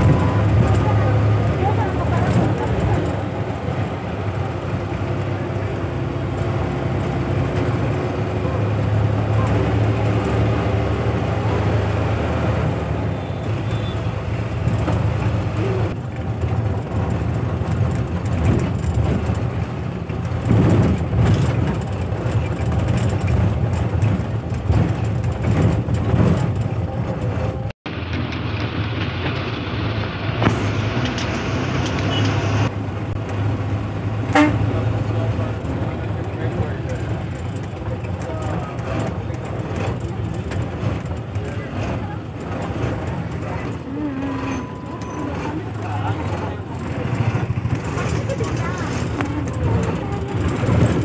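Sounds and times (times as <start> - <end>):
bus engine droning: 0.0 - 51.0
road noise: 0.0 - 51.0.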